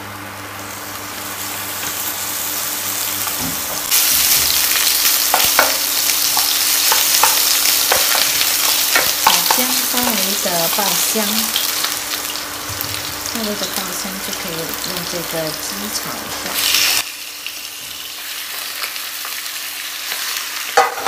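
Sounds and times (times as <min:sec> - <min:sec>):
ginger sizzling in oil: 0:00.4 - 0:21.0.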